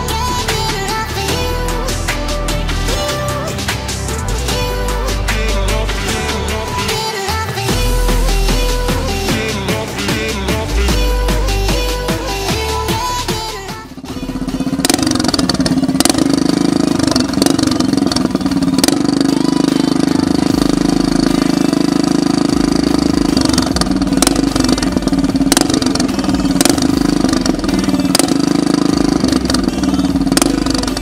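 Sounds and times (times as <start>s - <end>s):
mower engine running: 0.0s - 31.0s.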